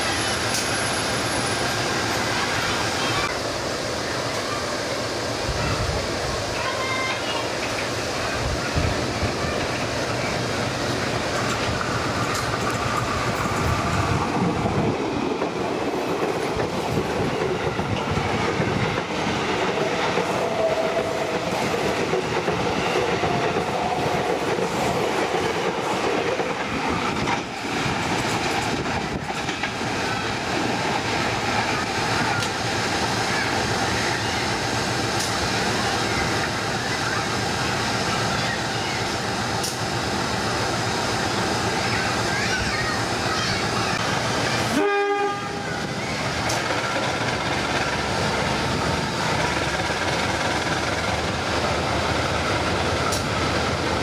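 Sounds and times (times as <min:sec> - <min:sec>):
electric train passing: 0:00.0 - 0:54.0
train approaching: 0:00.0 - 0:54.0.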